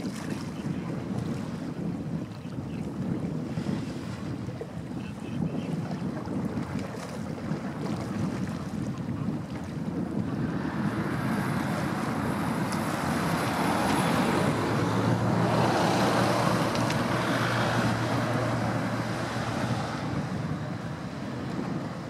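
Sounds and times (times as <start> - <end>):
wind on microphone: 0.0 - 22.0
boat engine passing: 2.7 - 22.0.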